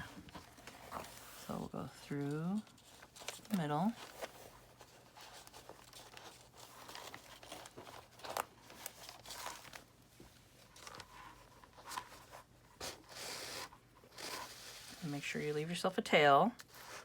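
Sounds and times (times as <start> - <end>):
paper rustling: 0.0 - 15.2
faint electrical hum: 0.0 - 17.0.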